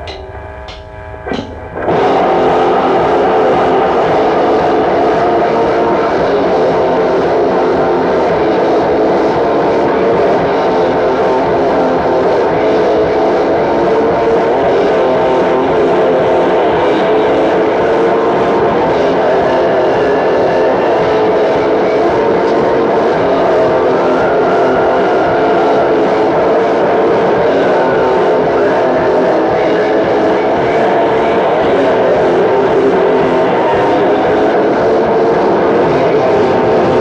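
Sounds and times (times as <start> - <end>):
distorted black metal music: 0.0 - 37.0.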